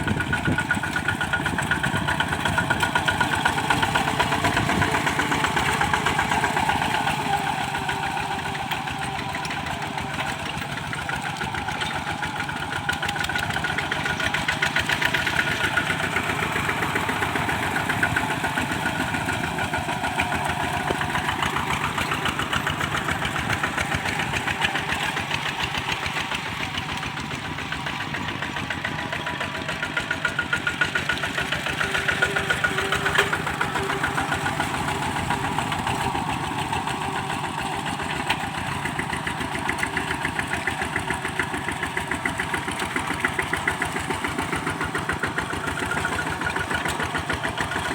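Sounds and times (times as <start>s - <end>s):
diesel engine chugging: 0.0s - 47.9s.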